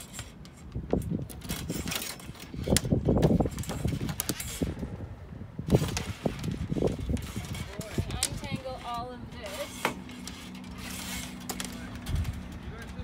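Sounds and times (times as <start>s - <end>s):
rigging clicks and clatters: 0.0s - 4.8s, 5.6s - 13.0s.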